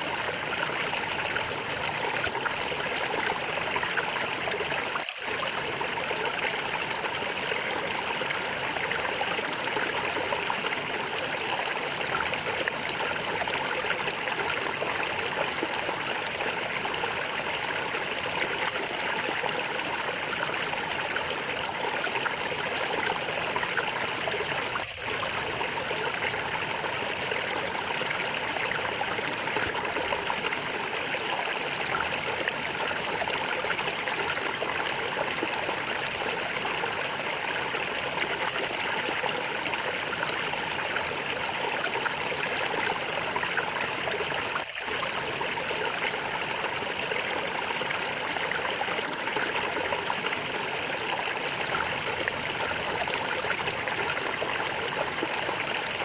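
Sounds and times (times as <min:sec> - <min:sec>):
stream of water gurgling: 0:00.0 - 0:56.0.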